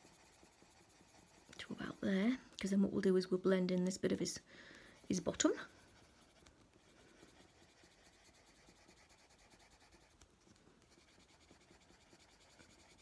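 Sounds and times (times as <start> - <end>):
pencil scratching on paper: 0.0 - 2.4, 4.9 - 13.0.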